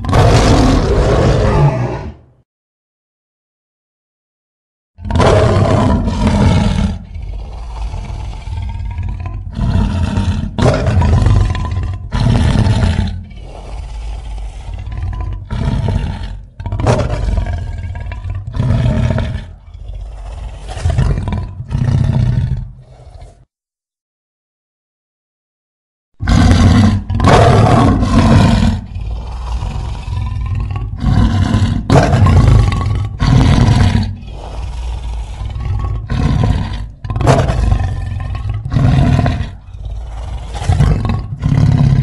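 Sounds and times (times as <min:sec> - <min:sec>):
growling creature roars: 0:00.0 - 0:02.4, 0:05.0 - 0:23.5, 0:26.2 - 0:42.0.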